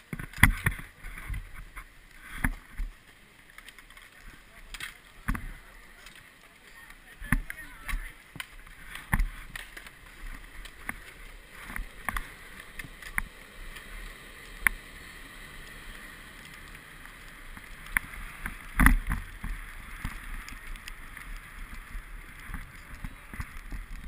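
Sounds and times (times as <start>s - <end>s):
skis scraping over packed snow: 0.0s - 24.0s.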